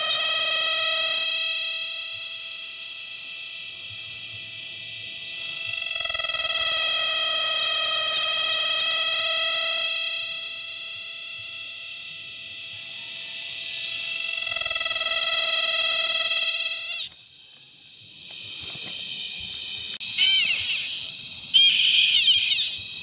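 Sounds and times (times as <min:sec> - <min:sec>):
cicada buzzing: 0:00.0 - 0:23.0.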